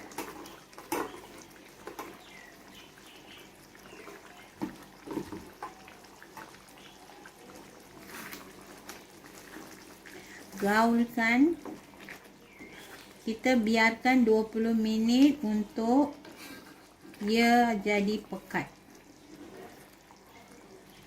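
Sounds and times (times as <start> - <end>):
stew bubbling and popping in a wok: 0.0 - 21.0.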